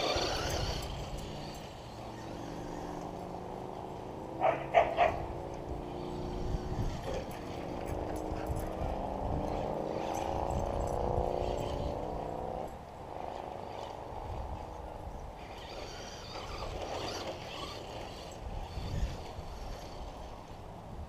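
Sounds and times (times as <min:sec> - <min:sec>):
wind rumble on microphone: 0:00.0 - 0:02.0, 0:05.1 - 0:21.0
rc car motor whining: 0:00.0 - 0:04.0, 0:05.4 - 0:20.6.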